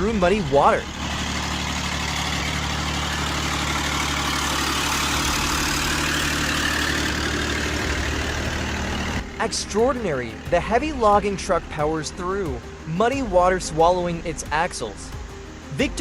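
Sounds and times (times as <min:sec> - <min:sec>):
truck engine drone: 0:00.0 - 0:16.0.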